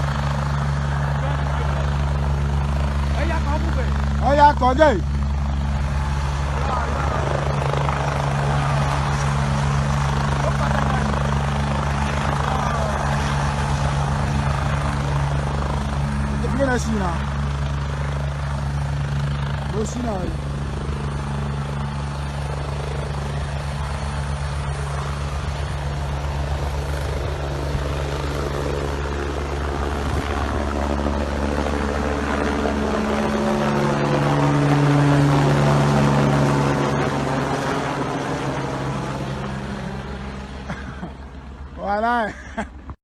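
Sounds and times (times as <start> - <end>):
helicopter flying overhead: 0.0 - 43.0.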